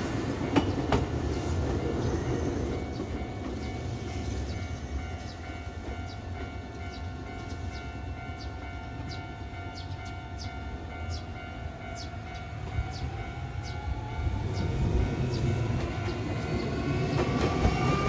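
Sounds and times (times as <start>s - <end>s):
approaching train rumble: 0.0s - 18.0s.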